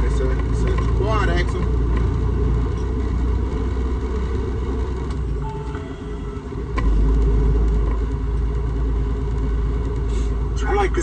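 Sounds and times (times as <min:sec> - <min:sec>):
road rumble: 0:00.0 - 0:11.0
truck diesel engine: 0:00.0 - 0:11.0.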